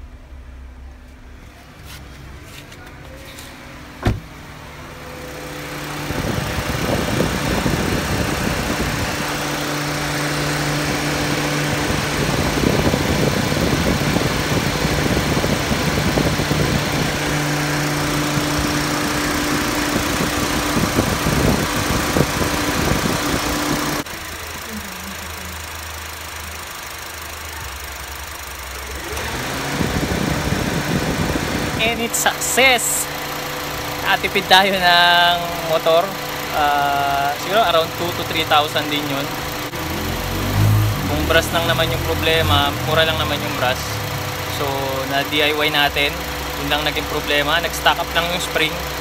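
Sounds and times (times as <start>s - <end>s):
car engine idling: 0.0s - 49.0s
radiator fan rushing air: 1.6s - 26.6s, 29.0s - 49.0s.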